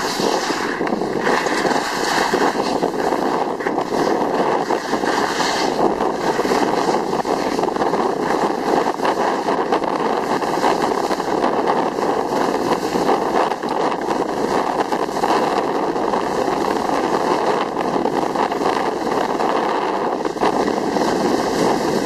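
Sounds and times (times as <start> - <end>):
skis sliding over snow: 0.0 - 22.0
wind buffeting microphone: 0.0 - 22.0.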